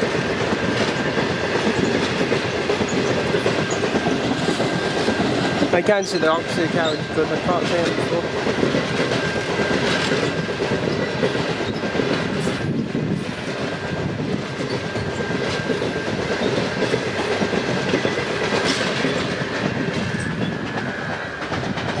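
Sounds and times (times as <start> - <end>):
wheels clicking over rail joints: 0.0 - 13.8, 14.4 - 22.0
train carriages rumbling past: 0.0 - 22.0.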